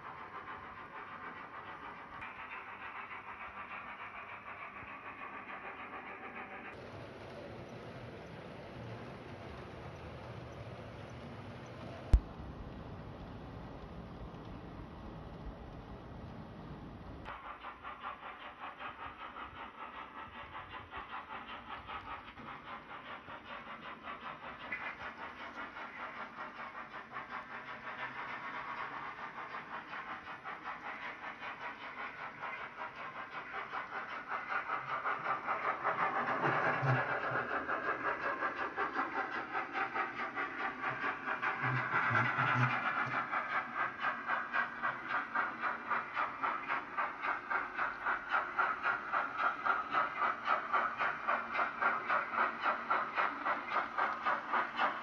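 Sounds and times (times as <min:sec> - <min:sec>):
model steam locomotive chuffing: 0:00.0 - 0:55.0.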